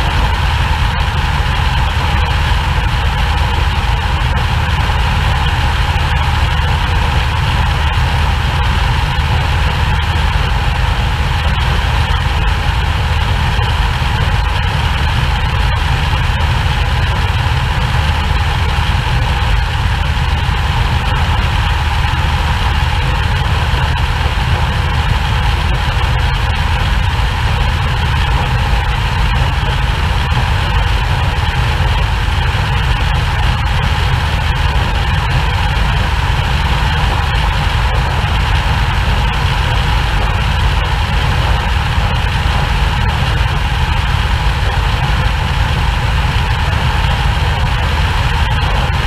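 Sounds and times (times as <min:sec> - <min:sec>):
piston aircraft engine running: 0:00.0 - 0:49.0.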